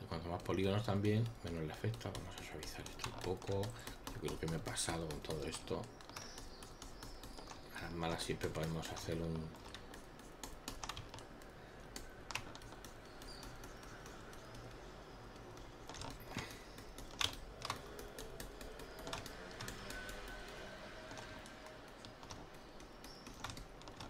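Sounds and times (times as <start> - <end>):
keyboard and mouse clicks: 0.2 - 24.0.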